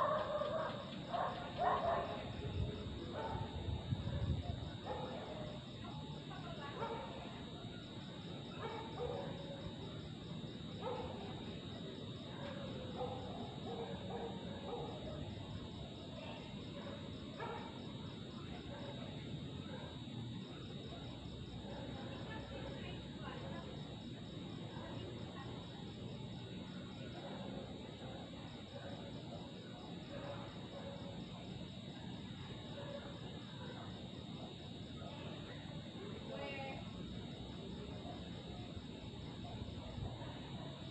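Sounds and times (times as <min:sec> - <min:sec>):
distant dogs barking: 0:00.0 - 0:07.7, 0:08.5 - 0:09.9, 0:10.6 - 0:23.0, 0:27.0 - 0:36.3, 0:37.2 - 0:40.9
crickets trilling: 0:00.0 - 0:40.9.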